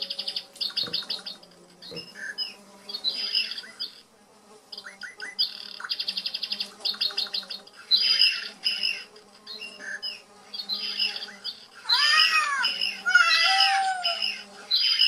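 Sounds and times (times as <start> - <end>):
low buzz of bees: 0.0 - 15.0
songbirds chirping: 0.0 - 15.0.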